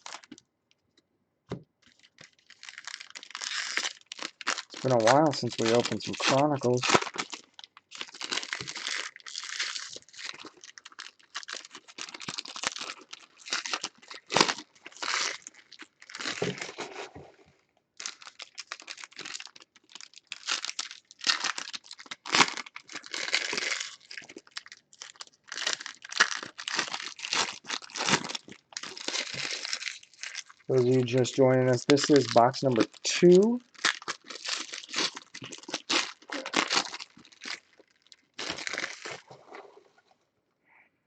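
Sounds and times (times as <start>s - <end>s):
plastic wrappers crinkling and tearing: 0.0s - 0.4s, 1.8s - 17.0s, 18.0s - 39.8s.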